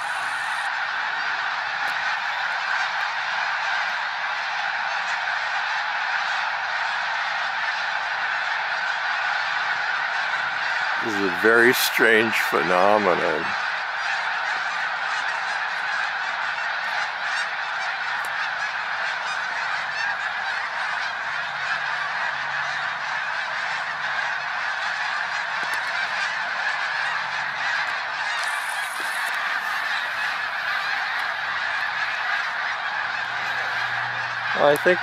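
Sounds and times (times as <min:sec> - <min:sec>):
huge flock of birds calling: 0:00.0 - 0:35.0.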